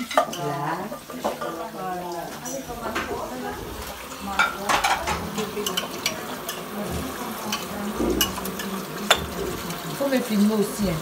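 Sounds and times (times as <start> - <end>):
dishes clinking: 0.0 - 11.0
tap water running into sink: 0.0 - 11.0.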